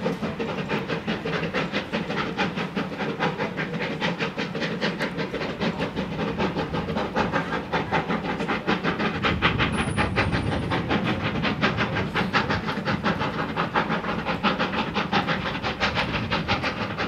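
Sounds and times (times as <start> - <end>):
hiss of steam: 0.0 - 17.0
steam locomotive exhaust beats: 0.0 - 17.0.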